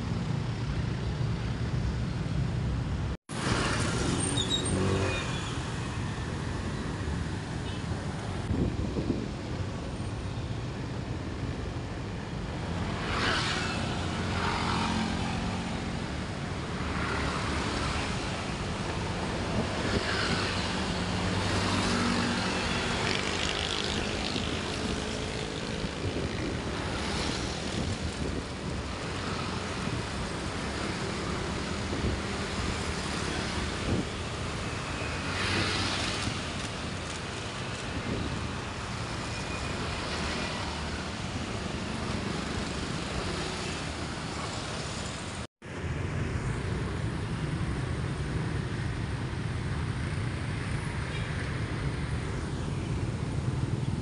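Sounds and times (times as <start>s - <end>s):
road traffic: 0.0s - 54.0s
vehicles passing close: 0.0s - 54.0s.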